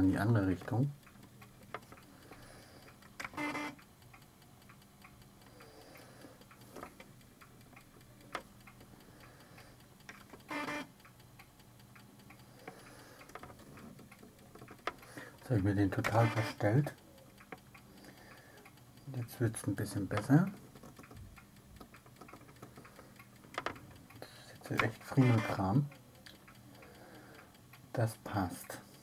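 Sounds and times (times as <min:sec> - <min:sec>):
floppy drive reading: 0:00.0 - 0:26.7
faint ticking: 0:00.0 - 0:29.0.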